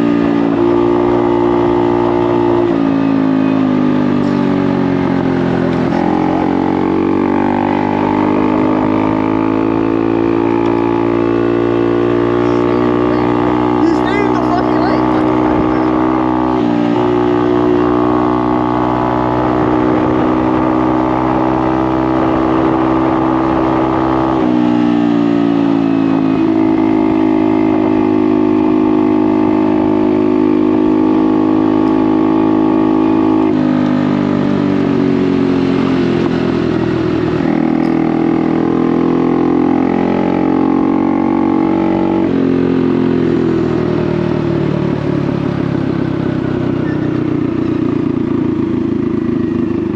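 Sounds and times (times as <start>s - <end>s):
motorcycle engine running loud: 0.0s - 49.9s.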